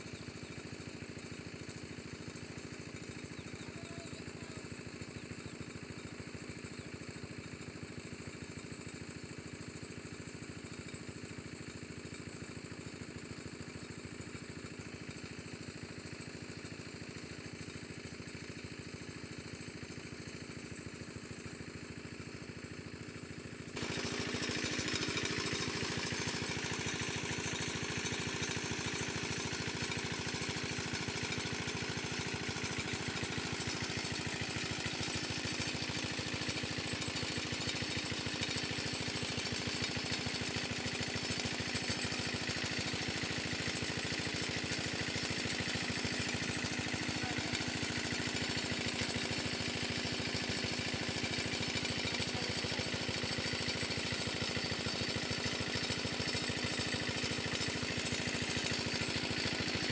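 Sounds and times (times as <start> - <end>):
small engine droning: 0.0 - 59.9.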